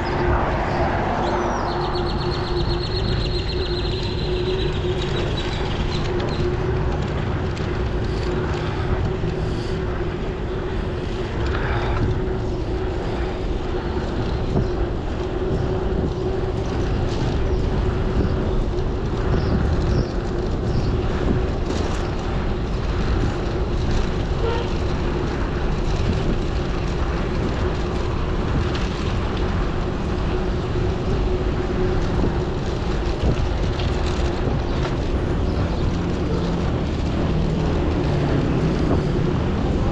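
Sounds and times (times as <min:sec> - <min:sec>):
constant hum: 0:00.0 - 0:39.9
wind rushing over microphone: 0:00.0 - 0:39.9.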